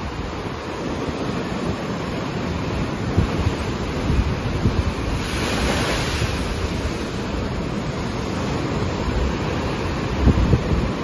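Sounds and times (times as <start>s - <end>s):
surf breaking over rocks: 0.0s - 11.0s
wave washing in with hiss: 0.0s - 11.0s.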